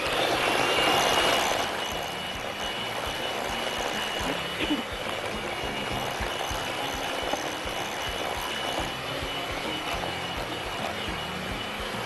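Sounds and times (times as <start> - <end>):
electric mixer whirring: 0.0 - 12.0.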